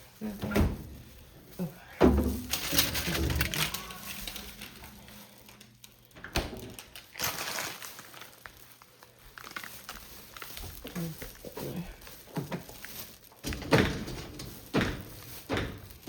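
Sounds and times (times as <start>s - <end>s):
knocks and rustling of handling: 0.0s - 16.0s.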